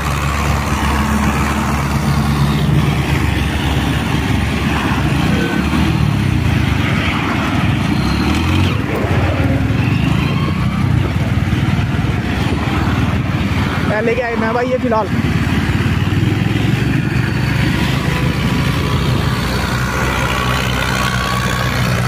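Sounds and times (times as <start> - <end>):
road noise: 0.0 - 22.0
tractor engine under heavy load: 0.0 - 22.0
wind noise: 0.0 - 22.0.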